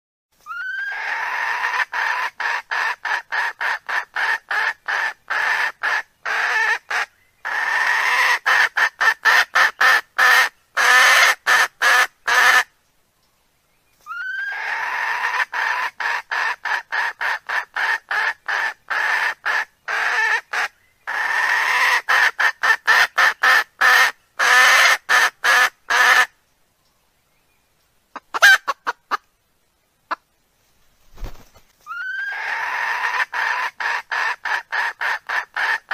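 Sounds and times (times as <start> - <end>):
hen squawking and clucking: 0.4 - 12.7, 14.1 - 26.3, 28.1 - 29.3, 31.1 - 35.9.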